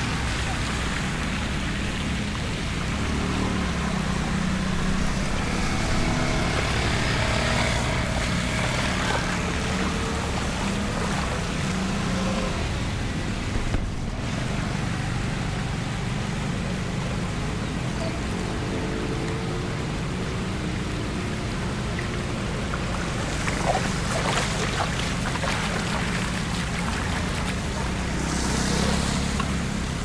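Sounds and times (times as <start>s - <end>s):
rain and water rushing: 0.0s - 30.0s
vehicle engine running: 0.0s - 30.0s.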